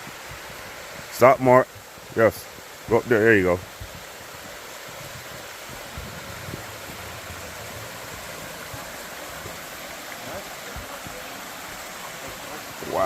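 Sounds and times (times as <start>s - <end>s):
rushing flowing water: 0.0s - 13.0s.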